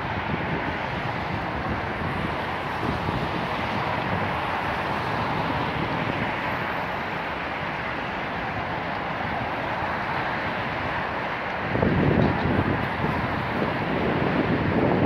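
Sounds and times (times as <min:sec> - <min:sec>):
distant traffic noise: 0:00.0 - 0:15.0.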